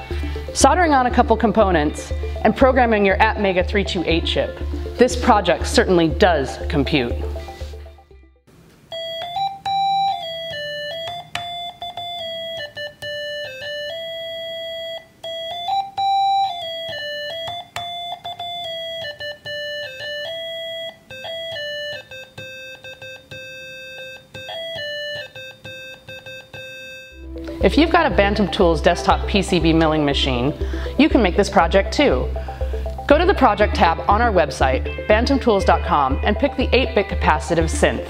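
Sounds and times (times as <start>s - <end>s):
synthesizer playing simple melody: 0.0s - 38.0s.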